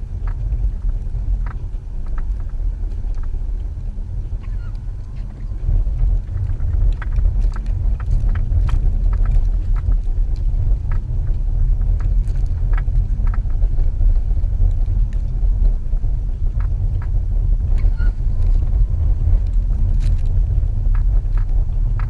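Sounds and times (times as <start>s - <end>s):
engine and tyres rumbling: 0.0s - 22.0s.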